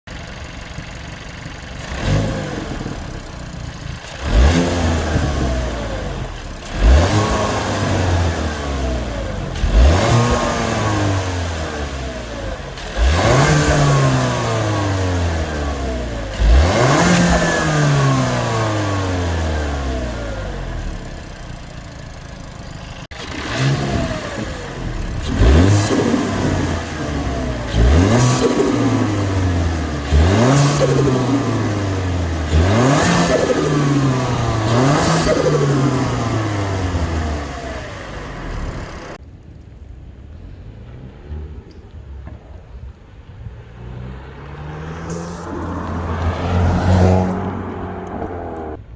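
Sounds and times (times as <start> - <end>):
car engine revving: 1.8 - 39.2, 40.5 - 48.9.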